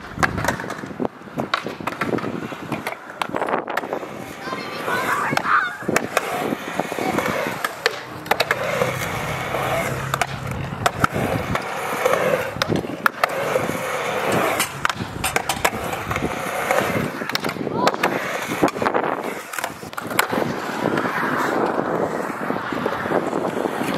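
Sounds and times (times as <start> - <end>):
skateboard sharp clacks: 0.0 - 23.9
skateboard wheels rolling on concrete: 0.0 - 23.9.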